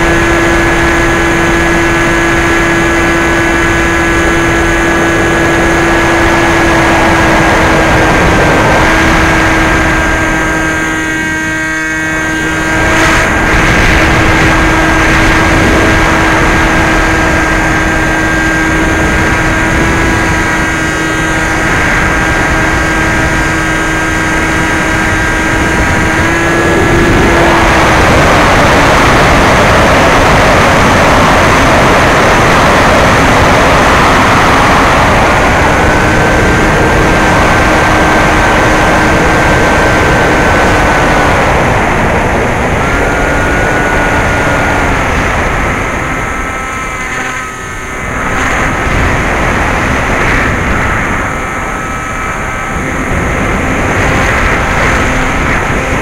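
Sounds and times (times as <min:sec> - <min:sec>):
electric motor humming: 0:00.0 - 0:56.0
wind rushing past microphone: 0:00.0 - 0:56.0.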